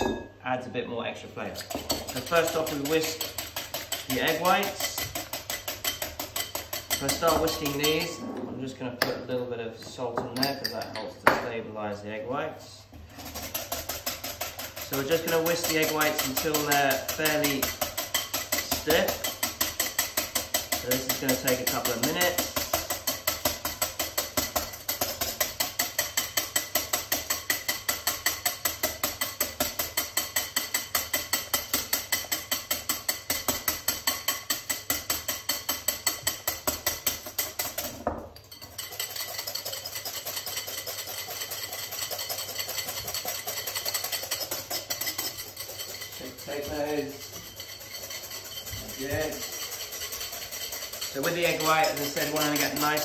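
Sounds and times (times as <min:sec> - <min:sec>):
wire whisk beating egg whites: 0:01.5 - 0:08.2, 0:12.9 - 0:53.0.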